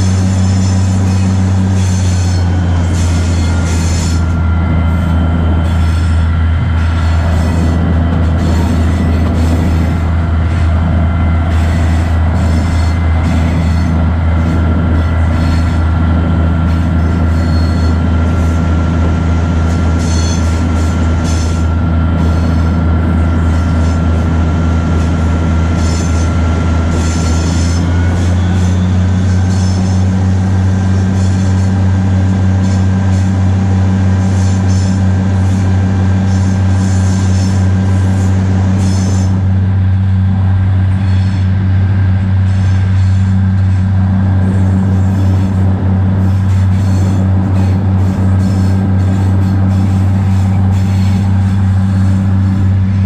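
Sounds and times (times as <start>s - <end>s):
locomotive engine drone: 0.0s - 53.0s
wheels squealing on rails: 0.0s - 53.0s.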